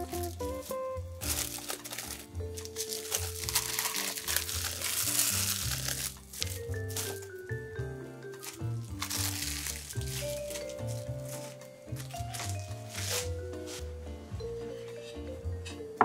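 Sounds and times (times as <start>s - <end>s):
plastic cling wrap crinkling: 0.0s - 7.6s, 8.3s - 13.8s
background music: 0.0s - 16.0s.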